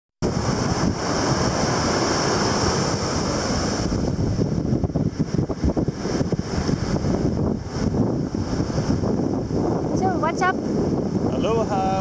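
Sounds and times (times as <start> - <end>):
ocean surf hiss: 0.2 - 12.0
wind buffeting microphone: 0.2 - 12.0.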